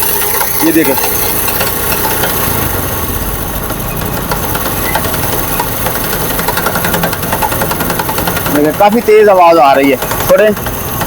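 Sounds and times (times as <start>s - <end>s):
motorcycle engine running: 0.0s - 11.0s
rapid gearbox knock: 0.0s - 11.0s.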